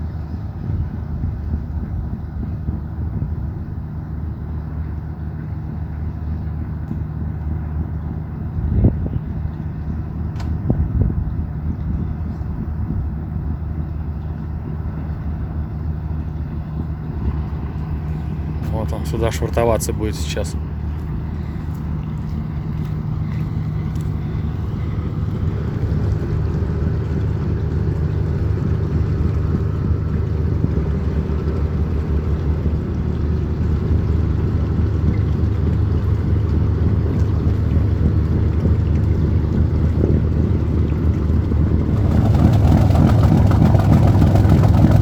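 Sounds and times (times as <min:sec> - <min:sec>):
boat engine low hum: 0:00.0 - 0:45.0.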